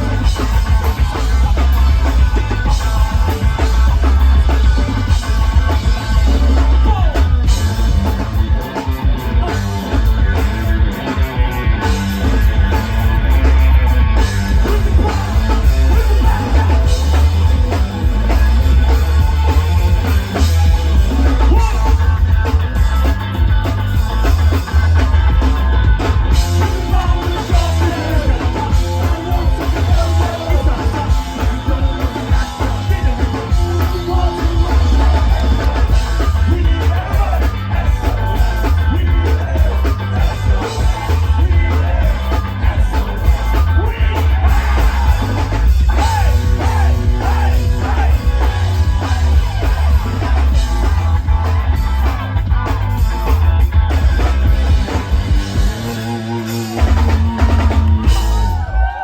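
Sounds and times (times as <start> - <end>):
drum kit: 0.0 - 59.0
heavy bass: 0.0 - 59.0
person singing: 0.0 - 59.0.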